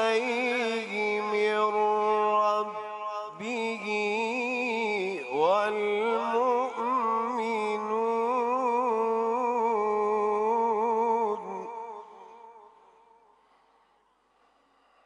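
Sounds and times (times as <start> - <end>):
man chanting recitation: 0.0 - 12.8.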